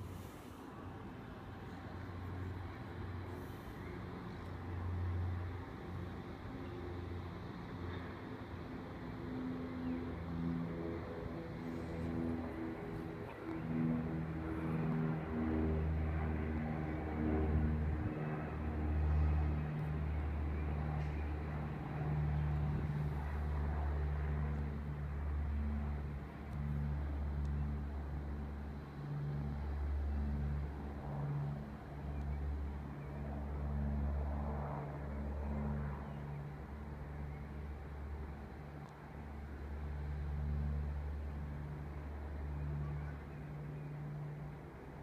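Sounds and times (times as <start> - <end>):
aircraft flying overhead: 0.0 - 45.0.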